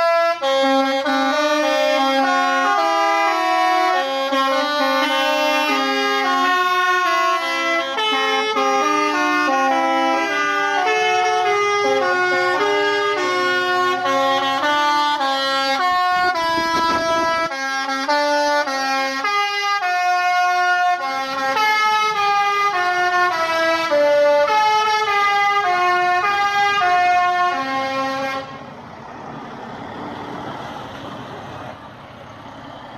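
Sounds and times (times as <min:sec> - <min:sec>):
musical air horns playing tune: 0:00.0 - 0:28.6.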